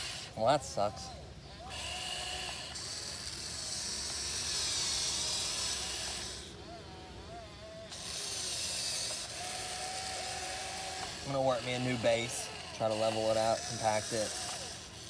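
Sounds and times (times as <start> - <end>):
toy excavator motors whining: 0.0 - 15.0.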